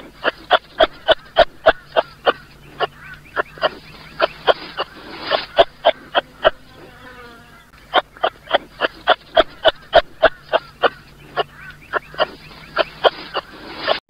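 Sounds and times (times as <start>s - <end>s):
kangaroo calling: 0.0s - 14.0s.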